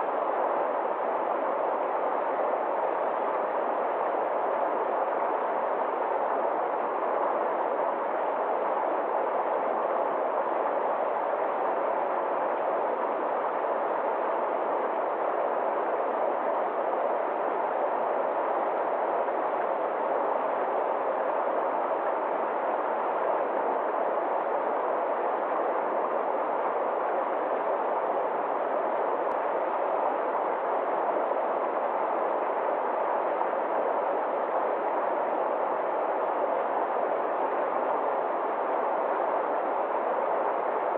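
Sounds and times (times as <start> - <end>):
stream rushing over rocks: 0.1 - 40.9.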